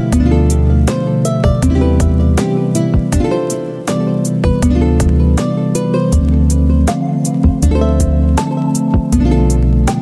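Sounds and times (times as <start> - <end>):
strummed guitar with bass and beat: 0.0 - 10.0.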